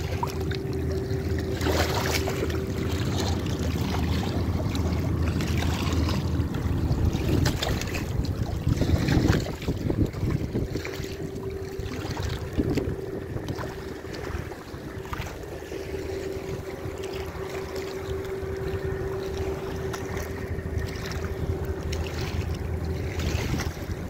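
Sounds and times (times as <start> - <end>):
boat engine drone: 0.0 - 24.0
wind buffeting microphone: 1.2 - 24.0.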